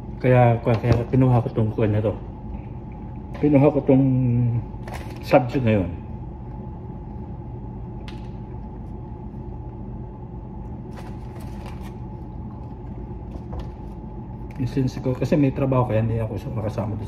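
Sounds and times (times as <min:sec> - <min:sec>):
ventilation hum: 0:00.0 - 0:17.0.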